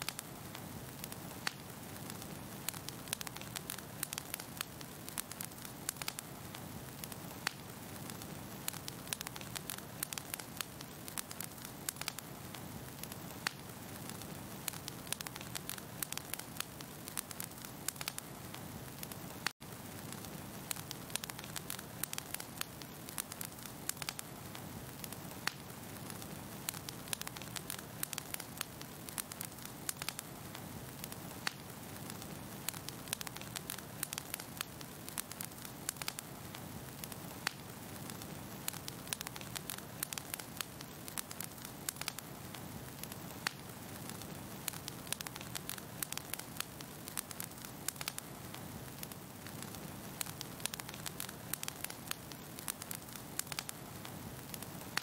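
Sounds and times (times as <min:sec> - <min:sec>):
fire crackling and popping: 0:00.0 - 0:55.0
rush of burning flames: 0:00.0 - 0:55.0.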